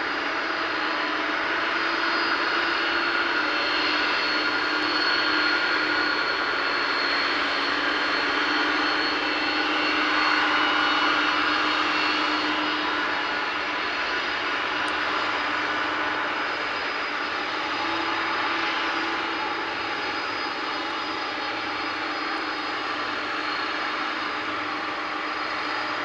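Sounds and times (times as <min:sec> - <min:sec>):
jet engines idling: 0:00.0 - 0:26.0.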